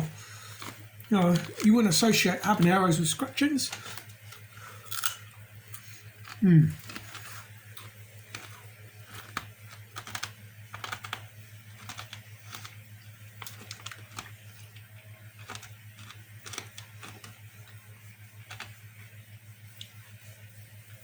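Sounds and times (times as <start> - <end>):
person chewing crunchy food: 0.0 - 2.7, 3.7 - 17.8, 18.4 - 18.8
steady low hum: 0.0 - 21.0.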